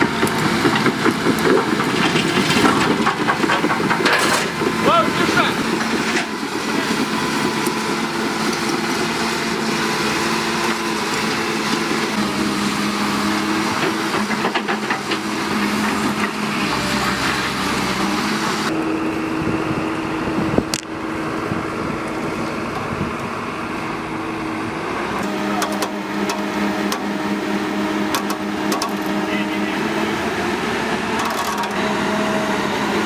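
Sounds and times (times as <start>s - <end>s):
heavy machinery engine running: 0.0s - 33.0s.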